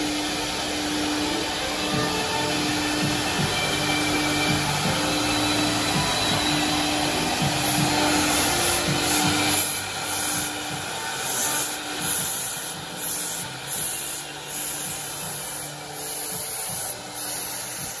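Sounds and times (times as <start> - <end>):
router carving wood: 0.0 - 18.0.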